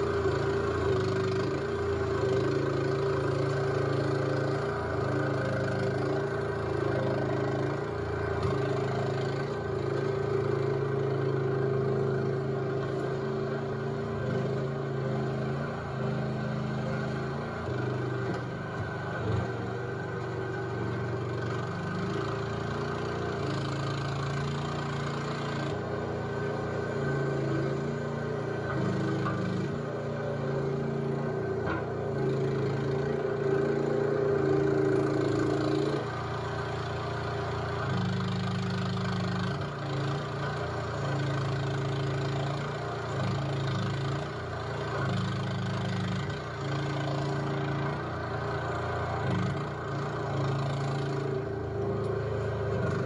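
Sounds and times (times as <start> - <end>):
skid steer engine working: 0.0 - 53.0.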